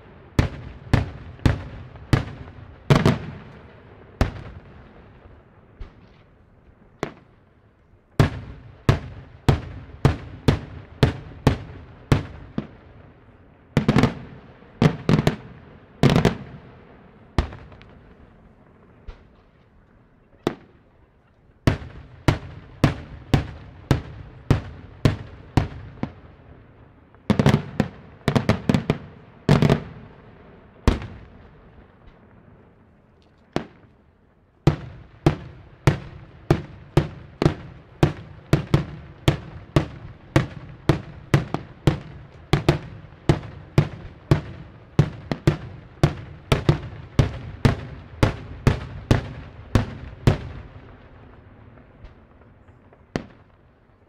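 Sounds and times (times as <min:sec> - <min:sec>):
fireworks bangs with echo: 0:00.0 - 0:07.4, 0:08.0 - 0:54.0.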